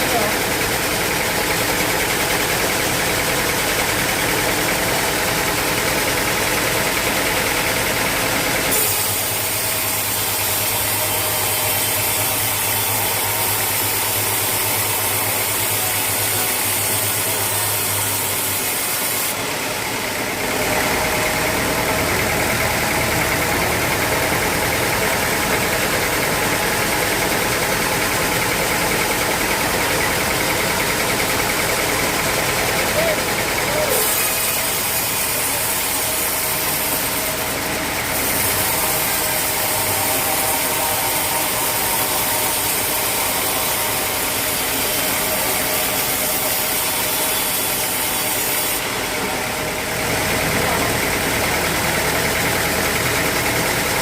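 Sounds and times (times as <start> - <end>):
sawmill machinery humming and hissing: 0.0 - 54.0.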